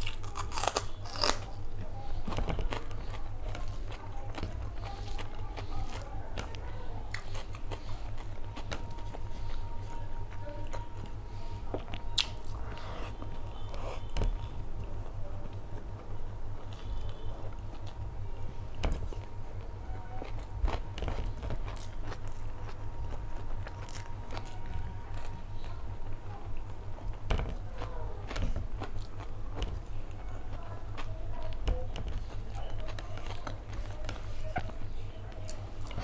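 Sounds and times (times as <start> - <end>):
chewing and wet mouth sounds: 0.0 - 36.0
steady low hum: 0.0 - 36.0.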